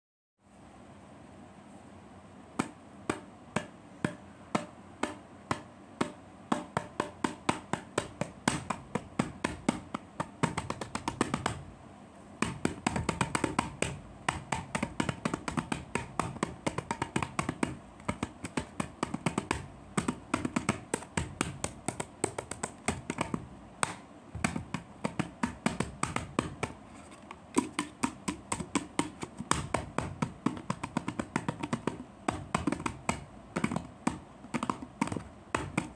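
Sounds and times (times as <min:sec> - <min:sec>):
hand drumming on a can: 0:02.6 - 0:11.7, 0:12.4 - 0:35.9.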